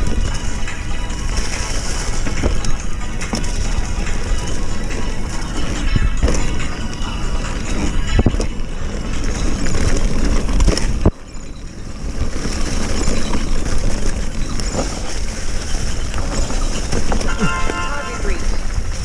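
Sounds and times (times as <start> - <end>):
bike rattling over bumps: 0.0 - 19.0
tyres rolling over dirt and leaves: 0.0 - 19.0.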